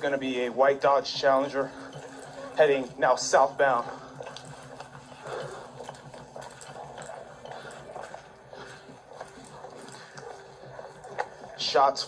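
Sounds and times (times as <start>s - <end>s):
footsteps: 0.0s - 12.0s.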